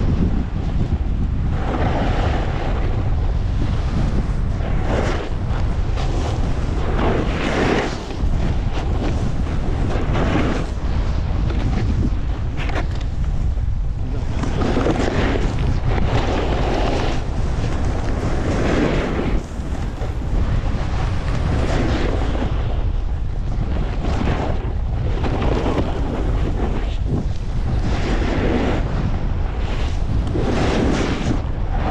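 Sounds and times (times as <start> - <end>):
wind buffeting microphone: 0.0 - 31.9
snowboard edge scraping snow: 1.4 - 31.9.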